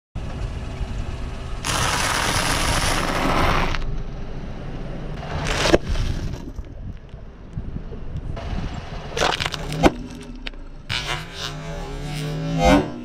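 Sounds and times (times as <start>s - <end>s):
low car rumble: 0.2s - 13.0s.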